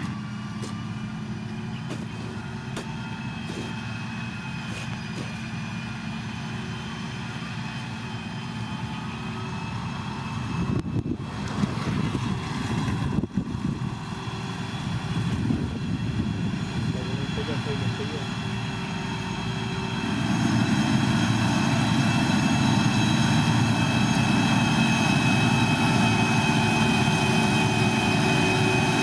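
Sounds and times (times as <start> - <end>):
heavy machinery diesel engine: 0.0 - 29.0.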